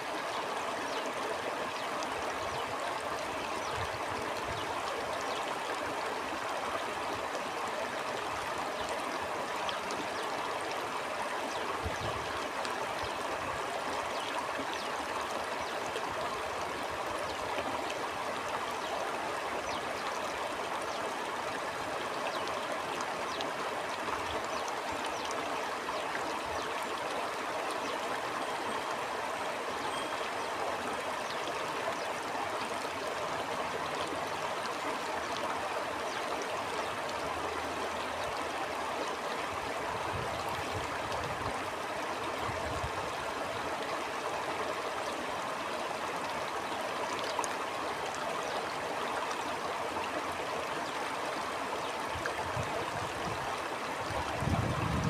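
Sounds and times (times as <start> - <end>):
stream flowing with trickling splashes: 0.0 - 55.0.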